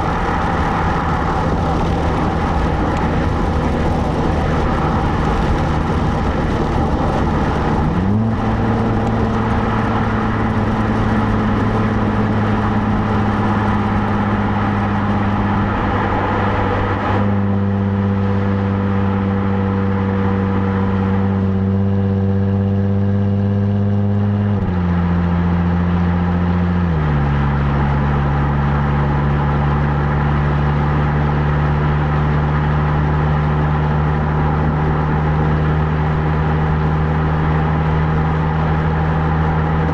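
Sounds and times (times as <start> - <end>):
car exhaust droning: 0.0 - 23.3, 24.0 - 39.9
road and wind noise: 0.0 - 39.9.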